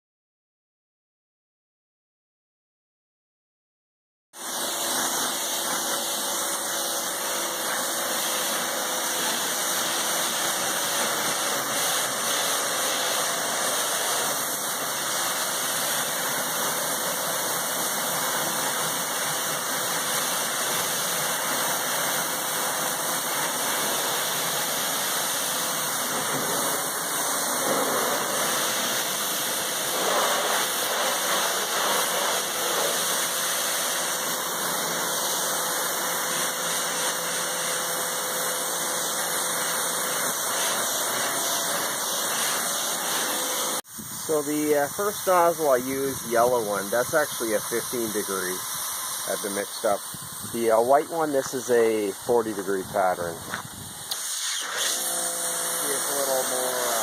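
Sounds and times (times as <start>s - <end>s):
pressure washer pump humming: 4.4s - 57.0s
water jet hissing: 4.4s - 57.0s.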